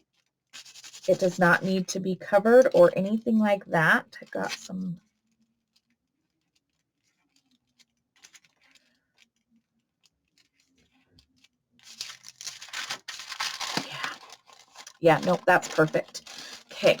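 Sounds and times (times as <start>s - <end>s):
paper rustling and crinkling: 0.0s - 1.8s, 4.2s - 17.0s.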